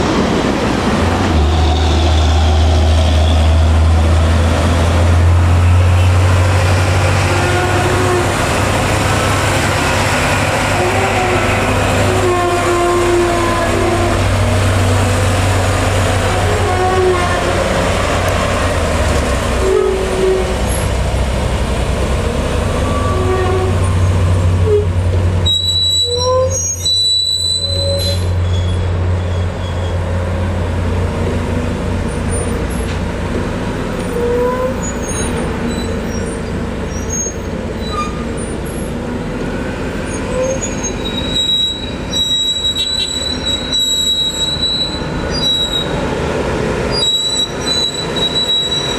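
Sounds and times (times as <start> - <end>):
diesel truck engine drone: 0.0 - 48.9.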